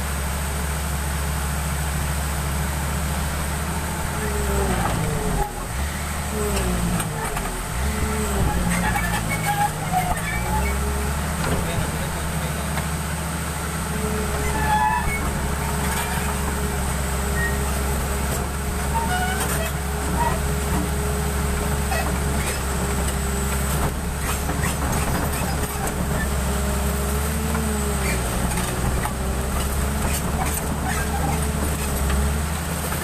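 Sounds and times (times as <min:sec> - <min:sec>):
diesel engine running: 0:00.0 - 0:33.0
continuous whine: 0:00.1 - 0:33.0.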